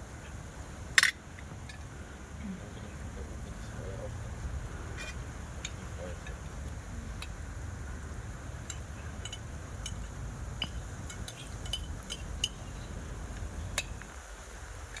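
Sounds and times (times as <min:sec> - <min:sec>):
campfire low rumble: 0:00.0 - 0:15.0.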